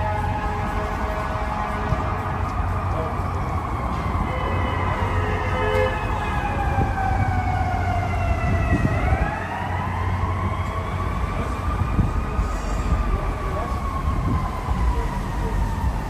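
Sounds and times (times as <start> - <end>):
low rumble of city traffic: 0.0 - 16.0
siren wailing: 0.0 - 16.0.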